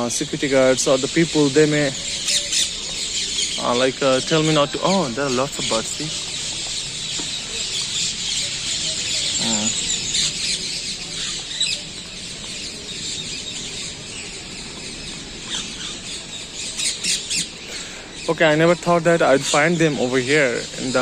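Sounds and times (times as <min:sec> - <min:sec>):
birds chirping in chorus: 0:00.0 - 0:21.0.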